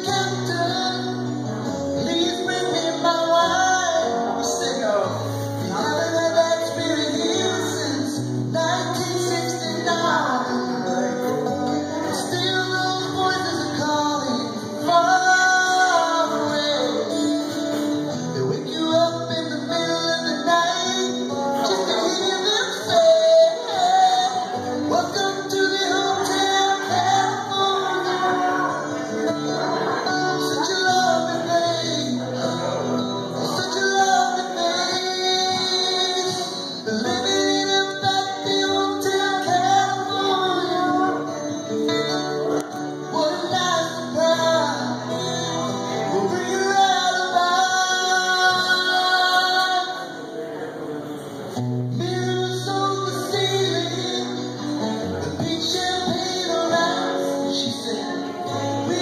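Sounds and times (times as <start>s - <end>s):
acoustic guitar strumming: 0.0s - 59.0s
man singing: 0.0s - 59.0s.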